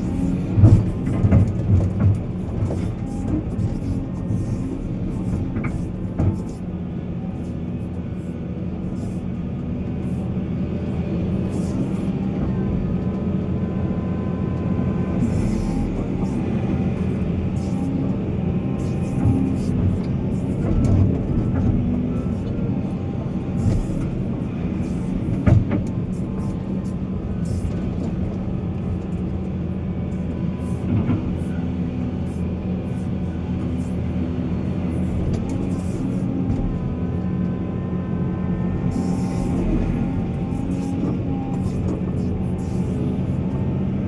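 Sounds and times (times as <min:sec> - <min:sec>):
heavy diesel machinery running: 0:00.0 - 0:44.0.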